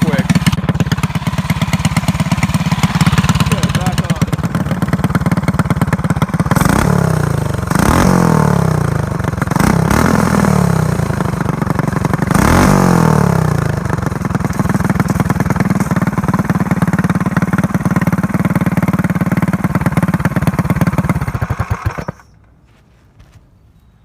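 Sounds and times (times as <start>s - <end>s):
small engine idling and revving: 0.0s - 22.4s.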